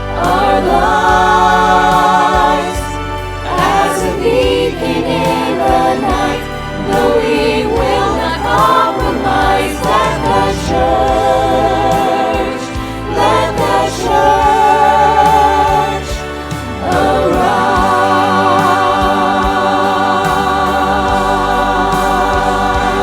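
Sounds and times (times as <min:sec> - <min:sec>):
choir singing praise song: 0:00.0 - 0:23.0
instrumental backing: 0:00.0 - 0:23.0.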